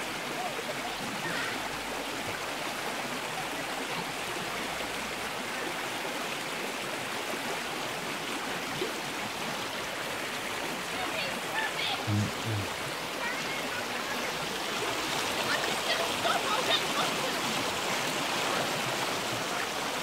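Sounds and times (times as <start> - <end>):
stream flowing: 0.0 - 20.0.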